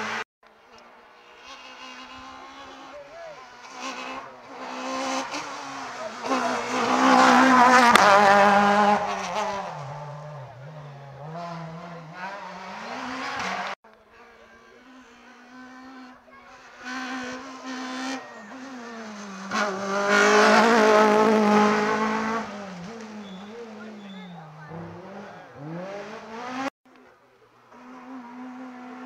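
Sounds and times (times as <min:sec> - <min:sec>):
rally cars passing at speed: 0:00.0 - 0:26.7, 0:27.5 - 0:29.0.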